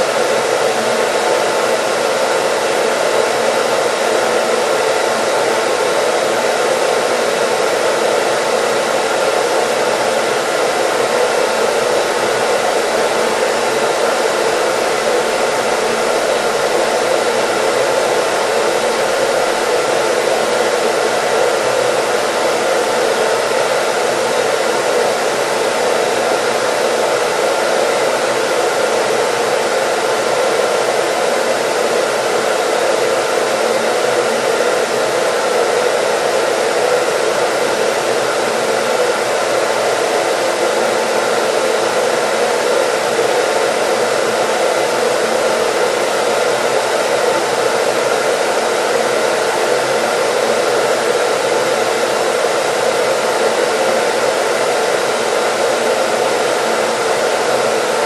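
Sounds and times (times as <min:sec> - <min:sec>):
hair dryer blowing air: 0:00.0 - 0:58.0.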